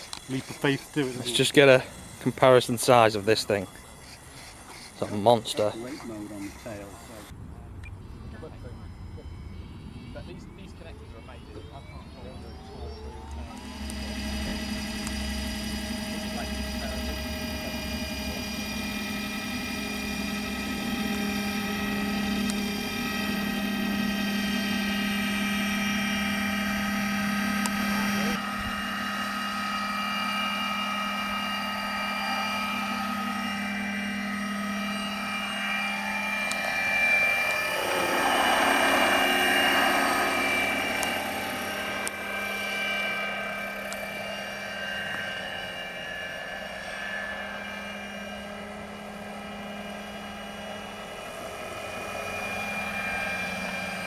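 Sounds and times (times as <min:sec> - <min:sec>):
electric motor whine: 0:00.0 - 0:54.0
helicopter rotor noise: 0:00.0 - 0:54.0.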